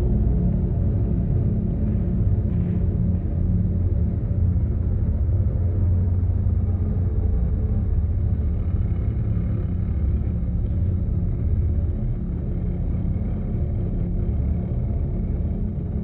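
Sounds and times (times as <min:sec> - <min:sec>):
ambient drone music: 0:00.0 - 0:16.0.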